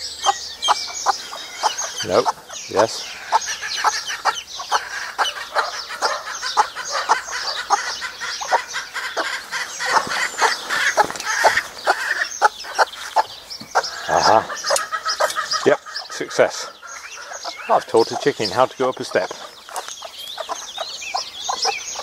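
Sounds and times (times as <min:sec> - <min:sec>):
chicks peeping rapidly: 0:00.0 - 0:22.0
hen clucking: 0:00.0 - 0:22.0.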